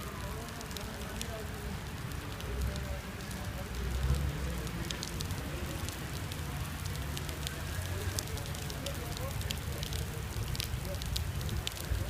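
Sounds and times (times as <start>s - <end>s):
raindrops pattering on a surface: 0.0s - 12.0s
steady rain hiss: 0.0s - 12.0s.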